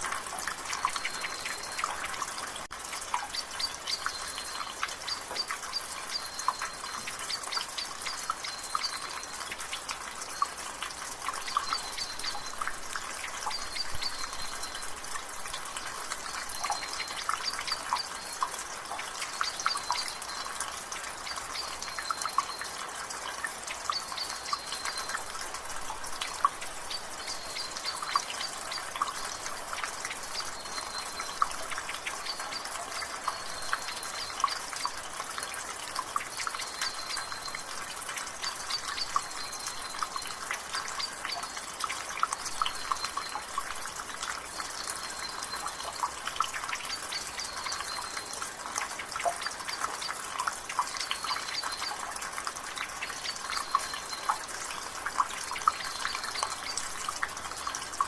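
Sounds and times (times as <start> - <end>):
steady rain: 0.0 - 58.0
water dripping from rain gutter: 0.0 - 58.0.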